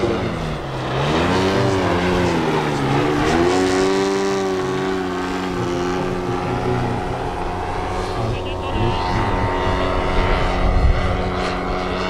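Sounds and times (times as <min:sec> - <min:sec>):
model plane petrol engine: 0:00.0 - 0:12.0.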